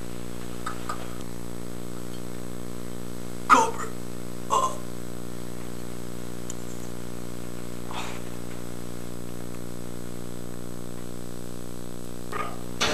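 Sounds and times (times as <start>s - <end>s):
low buzzing hum: 0.0s - 12.9s.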